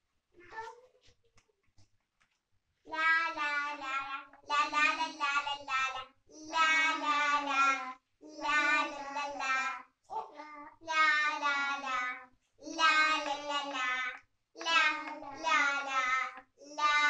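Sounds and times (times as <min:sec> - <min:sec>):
child singing: 0:02.9 - 0:17.0.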